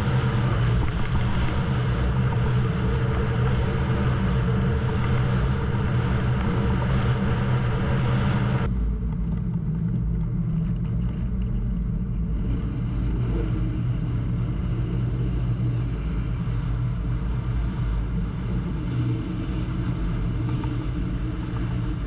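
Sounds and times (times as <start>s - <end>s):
wind and water hiss: 0.0s - 8.7s, 12.5s - 22.0s
boat engine rumbling: 0.0s - 22.0s.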